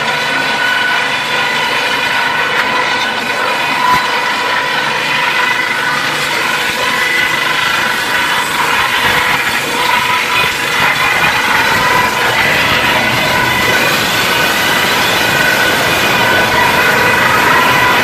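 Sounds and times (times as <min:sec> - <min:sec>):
wood crusher running: 0:00.0 - 0:18.0.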